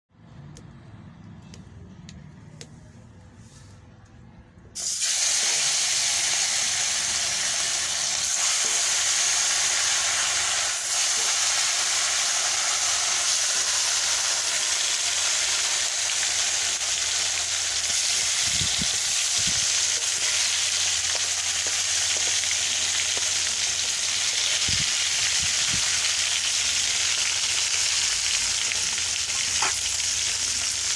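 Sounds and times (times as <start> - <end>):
fish sizzling in hot oil: 4.8 - 30.9.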